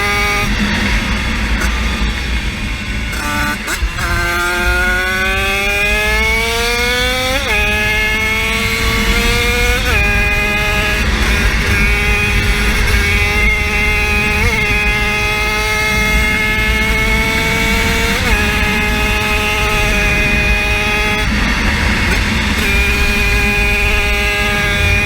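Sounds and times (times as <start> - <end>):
small engine running at full power: 0.0 - 25.0.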